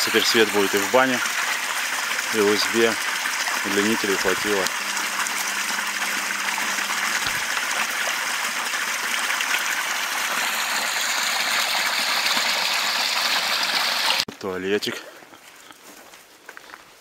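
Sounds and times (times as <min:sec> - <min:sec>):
stream trickling over stones: 0:00.0 - 0:14.3.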